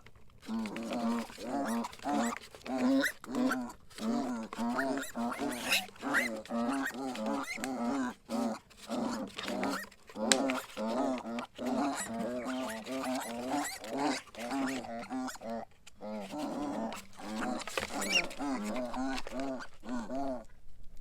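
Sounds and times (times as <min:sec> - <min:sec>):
pigs grunting: 0:00.4 - 0:20.5.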